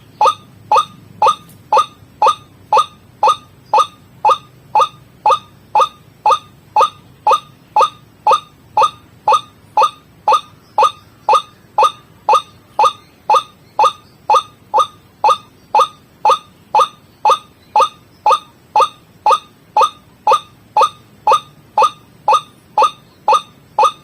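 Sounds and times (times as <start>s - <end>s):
waterhen calling: 0.0s - 24.0s.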